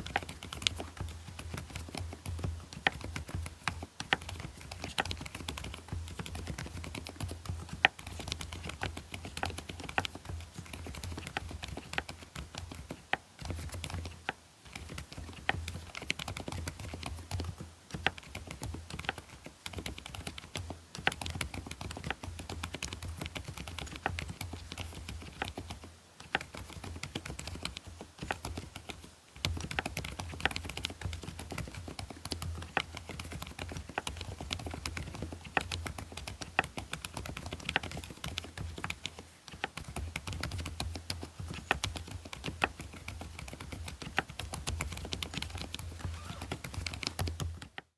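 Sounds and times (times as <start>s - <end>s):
soft keyboard keystrokes: 0.0s - 47.9s.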